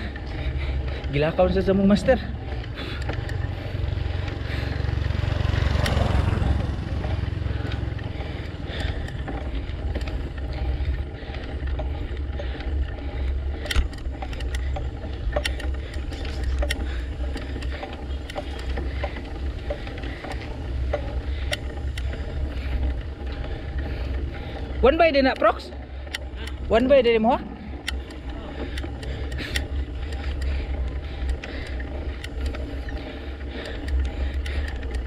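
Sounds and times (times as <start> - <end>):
clicks and rattles: 0.0 - 35.0
motorcycle engine rumble: 0.0 - 35.0.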